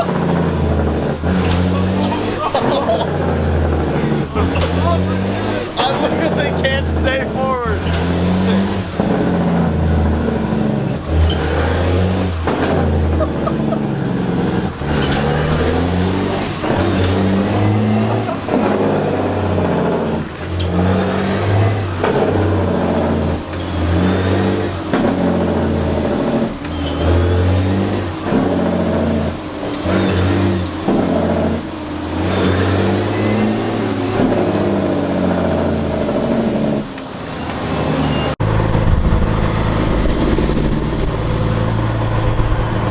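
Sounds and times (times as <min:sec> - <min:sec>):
diesel truck engine revving: 0:00.0 - 0:42.9.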